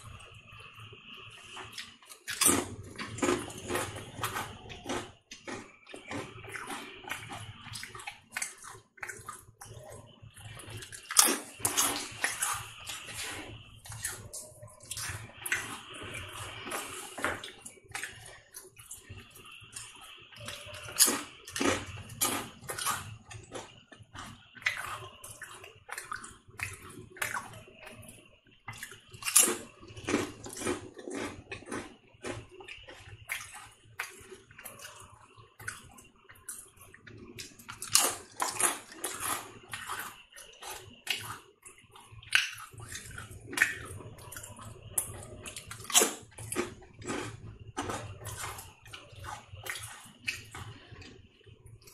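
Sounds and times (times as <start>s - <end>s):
potato chips crunching: 1.6s - 28.0s, 28.7s - 51.2s.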